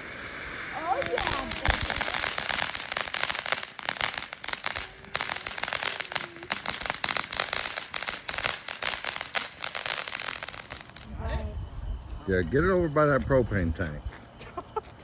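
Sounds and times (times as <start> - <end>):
firework hissing and crackling: 0.0 - 15.0.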